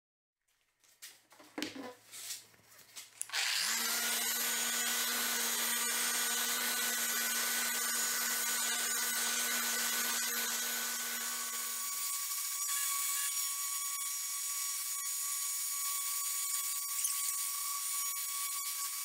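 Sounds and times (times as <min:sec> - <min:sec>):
electric power tool running: 0:03.3 - 0:19.0.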